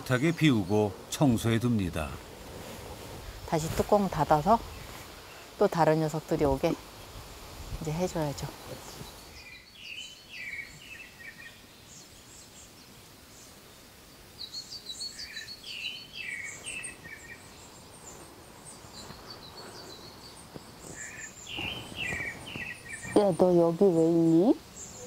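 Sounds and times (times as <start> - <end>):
faint outdoor hiss: 0.0 - 25.0
songbirds chirping: 0.0 - 25.0.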